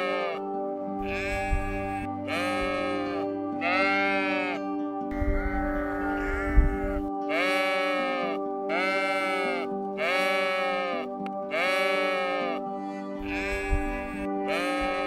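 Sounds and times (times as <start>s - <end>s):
sheep bleating: 0.0s - 4.7s, 5.3s - 15.0s
background music: 0.0s - 15.0s.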